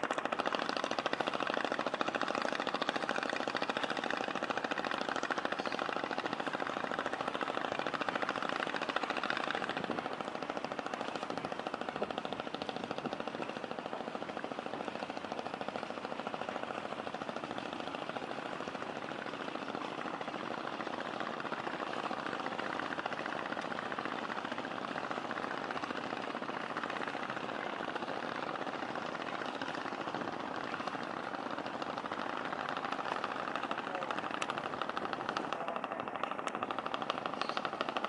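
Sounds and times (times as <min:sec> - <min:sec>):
boat engine chugging: 0:00.0 - 0:38.0.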